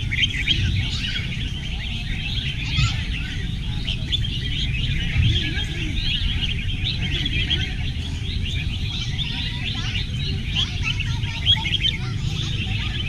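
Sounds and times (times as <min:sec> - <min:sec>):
chorus of birds chirping: 0:00.0 - 0:13.0
low background rumble: 0:00.0 - 0:13.0.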